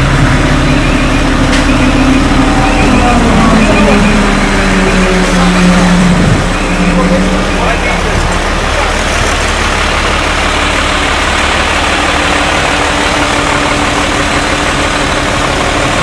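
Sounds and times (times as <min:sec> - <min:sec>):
engine roar: 0:00.0 - 0:16.0.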